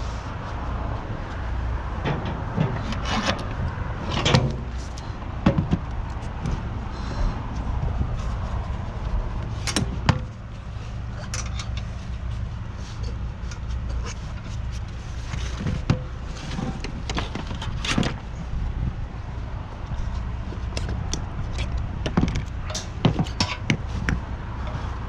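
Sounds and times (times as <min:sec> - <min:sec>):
vehicle engine idling: 0:00.0 - 0:23.1.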